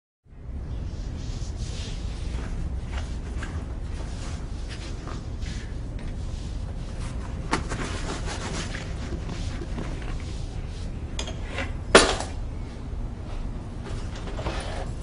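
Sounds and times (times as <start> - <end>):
steady low hum: 0.3 - 15.0.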